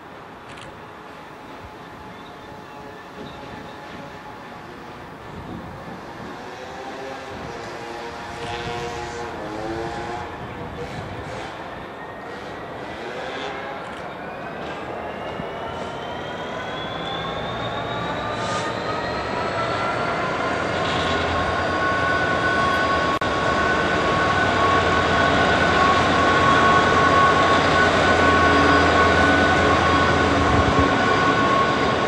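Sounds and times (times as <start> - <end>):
diesel locomotive engine: 0.0 - 32.0.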